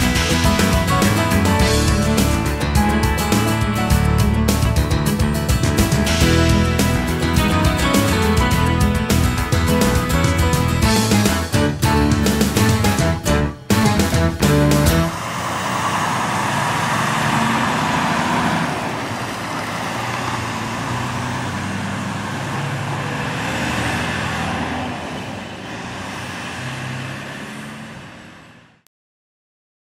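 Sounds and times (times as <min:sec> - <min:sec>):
tyre and road noise: 0:00.0 - 0:28.8
truck diesel engine under load: 0:00.0 - 0:28.9.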